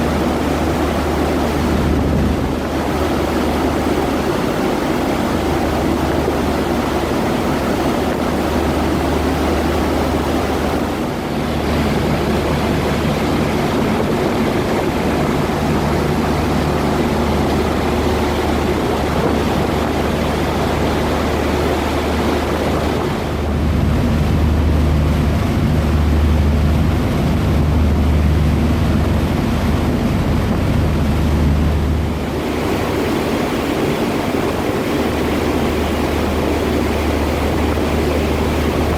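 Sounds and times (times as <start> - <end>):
ferry engine drone: 0.0 - 38.9
rush of wind and water: 0.0 - 38.9.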